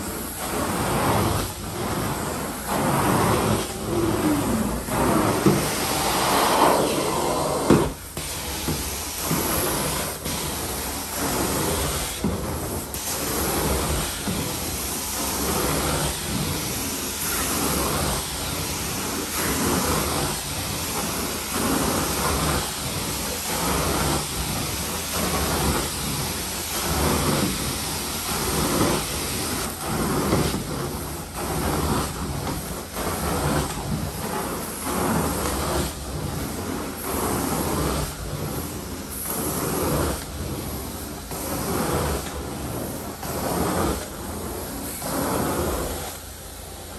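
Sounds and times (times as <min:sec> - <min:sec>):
carpet cleaning wand hissing: 0:00.0 - 0:46.9.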